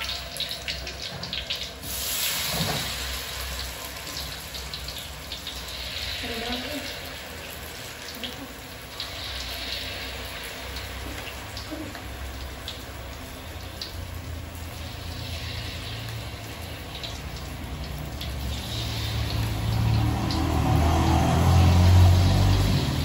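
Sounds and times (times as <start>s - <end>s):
food frying in hot oil: 0.0s - 23.0s.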